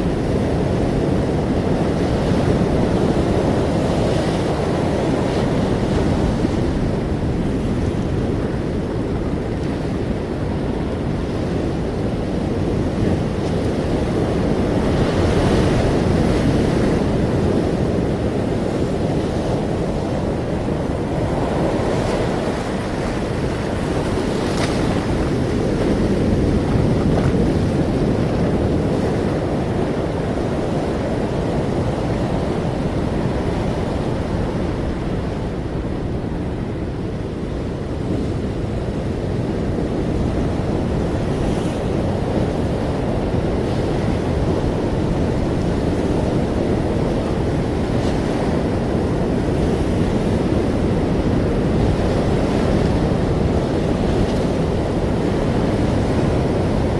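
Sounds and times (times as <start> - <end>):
ocean waves washing: 0.0 - 56.9
wind on microphone: 0.0 - 56.9.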